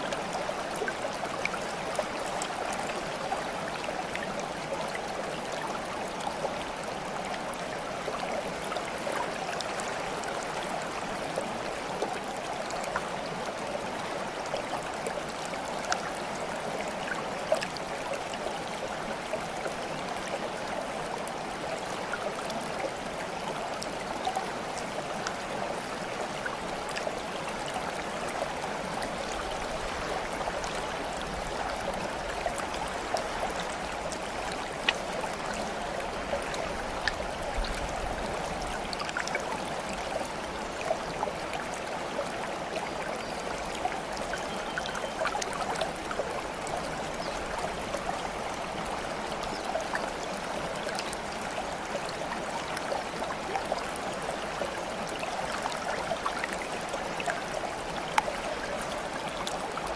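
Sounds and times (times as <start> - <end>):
water flowing and trickling: 0.0 - 59.9.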